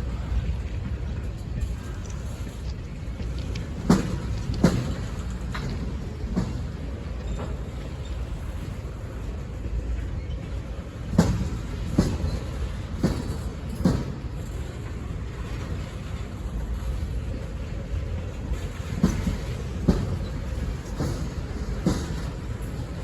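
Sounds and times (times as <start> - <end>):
freight train rumbling past: 0.0 - 23.0
wheels clacking over rail joints: 0.0 - 23.0.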